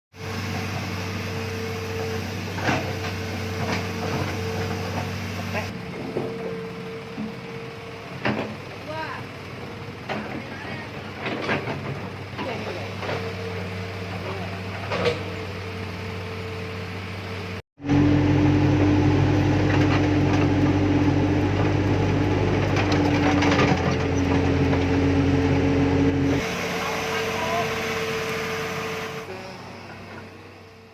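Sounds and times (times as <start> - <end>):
excavator engine hum: 0.1 - 30.9.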